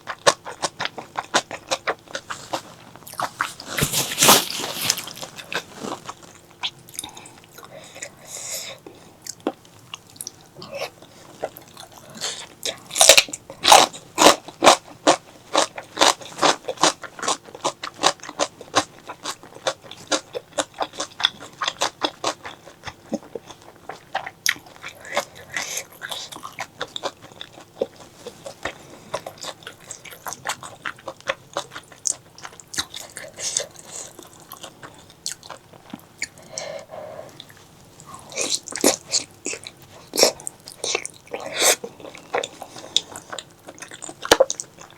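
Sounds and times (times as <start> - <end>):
close chewing and biting: 0.0 - 8.5, 9.2 - 44.9.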